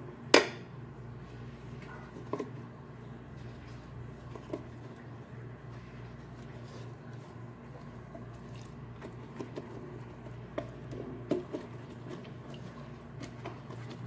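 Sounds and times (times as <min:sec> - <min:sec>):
steady low hum: 0:00.0 - 0:14.0
pastry brush wet squishes: 0:01.3 - 0:14.0.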